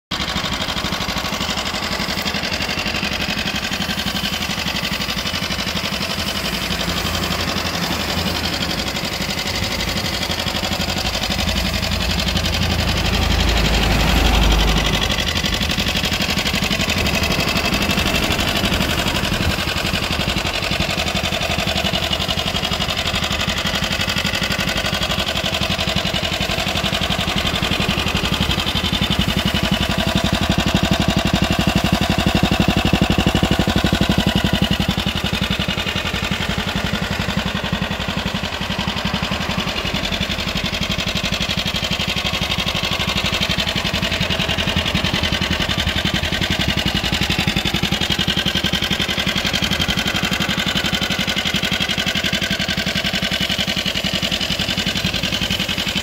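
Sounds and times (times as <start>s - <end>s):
motorcycle engine idling: 0.1s - 56.0s.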